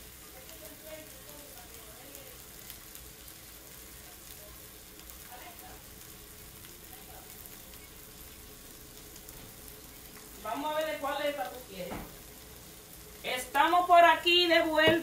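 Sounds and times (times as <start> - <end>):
chicken sizzling on griddle: 0.0 - 15.0.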